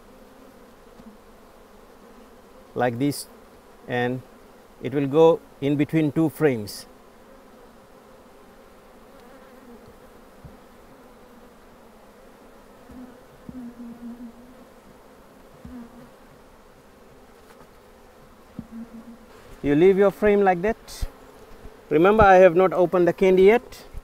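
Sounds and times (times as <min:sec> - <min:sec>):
bee buzzing close past: 0:00.0 - 0:24.0
bees humming: 0:00.0 - 0:24.0.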